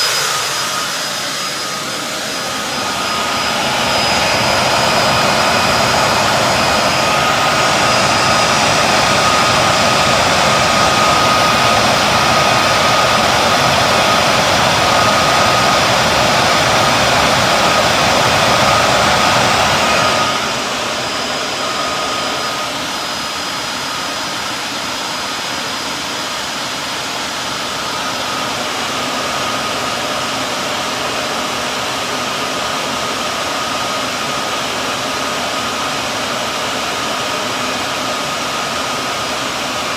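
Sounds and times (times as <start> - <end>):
cooling fans rushing with whine: 0.0 - 39.9.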